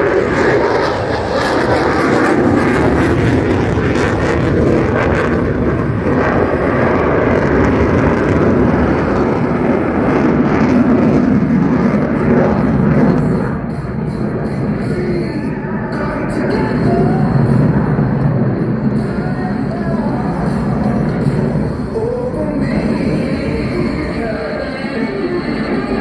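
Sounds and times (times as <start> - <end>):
loud jet roar: 0.0 - 26.0.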